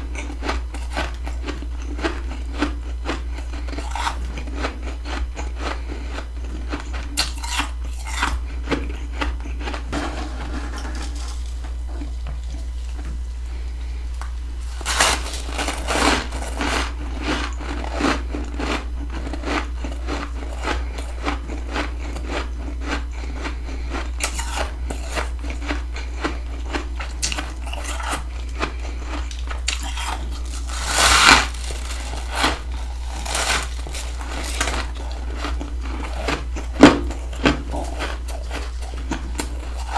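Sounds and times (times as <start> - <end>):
chewing crunchy frost: 0.0 - 39.9
steady low hum: 0.0 - 39.9.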